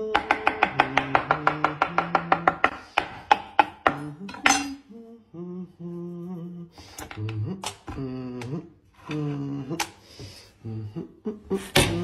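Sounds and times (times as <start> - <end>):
person humming: 0.0 - 3.0, 3.7 - 12.0.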